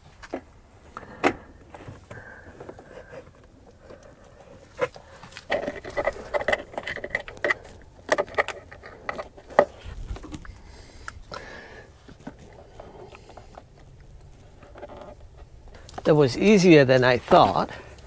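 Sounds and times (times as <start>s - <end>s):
cables scraping through rubber grommet: 1.8s - 11.3s, 12.3s - 18.0s.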